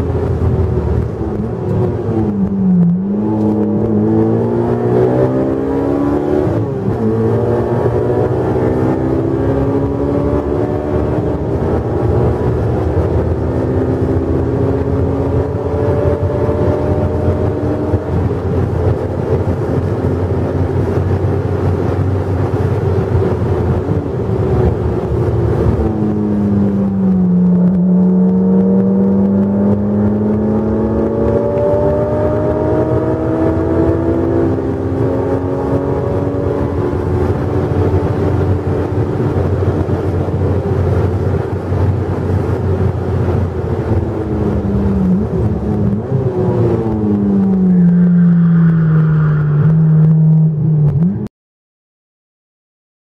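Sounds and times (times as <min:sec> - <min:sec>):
car engine revving: 0:00.0 - 0:51.3
wind noise: 0:00.0 - 0:51.3.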